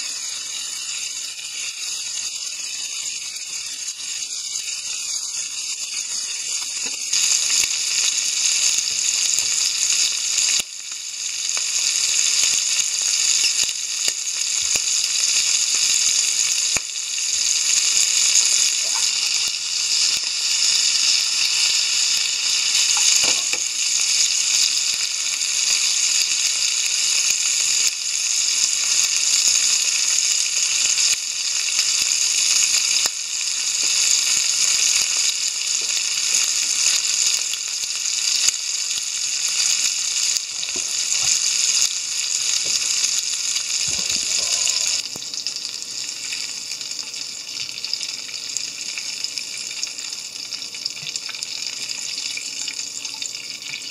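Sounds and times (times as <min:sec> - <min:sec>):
shrimps sizzling in oil: 0:00.0 - 0:53.9.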